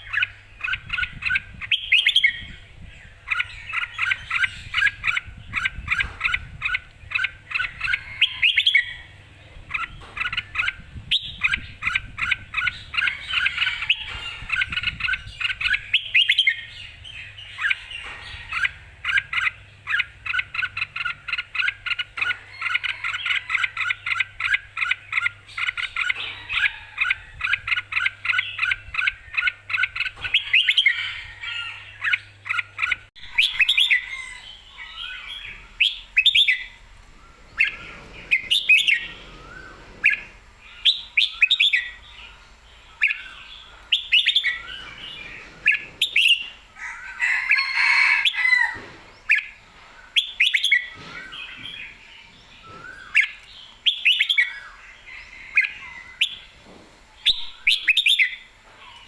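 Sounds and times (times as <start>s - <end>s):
bird singing bright chirps: 0.0s - 59.0s.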